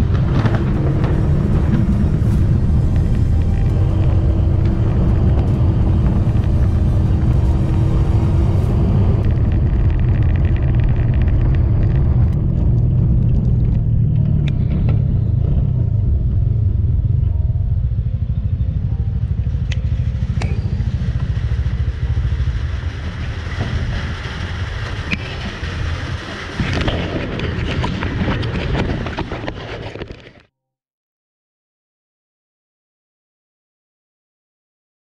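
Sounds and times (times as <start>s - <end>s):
motorcycle engine rumble: 0.0s - 30.0s.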